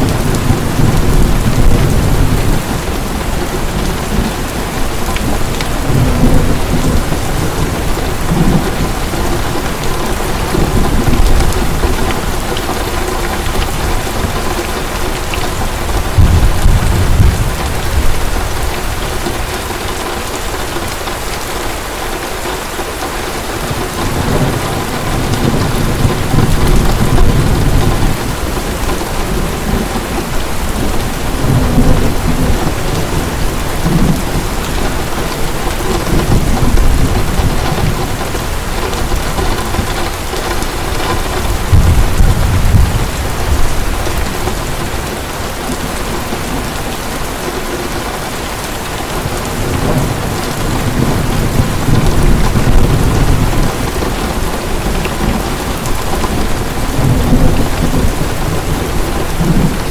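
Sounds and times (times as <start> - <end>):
thunder rolling: 0.0 - 19.6, 23.7 - 46.8, 49.2 - 59.9
heavy rain pouring: 0.0 - 59.9.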